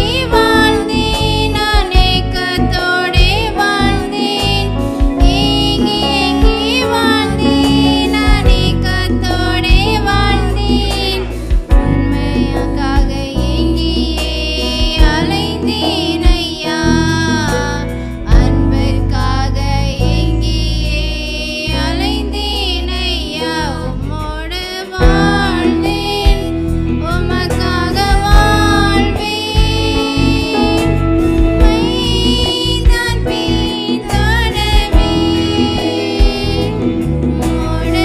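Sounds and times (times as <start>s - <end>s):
bass guitar: 0.0s - 38.0s
electric guitar: 0.0s - 38.0s
keyboard: 0.0s - 38.0s
woman singing worship song: 0.0s - 38.0s.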